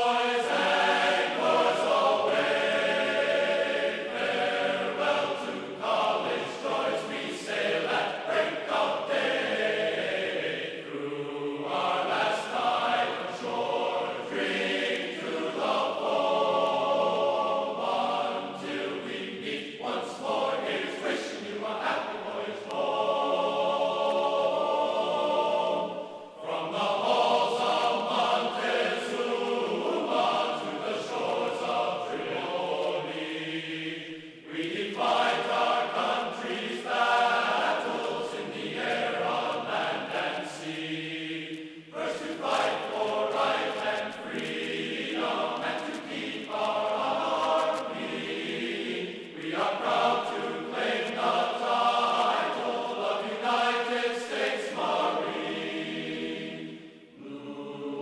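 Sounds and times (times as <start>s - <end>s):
voices singing together: 0.0s - 58.0s.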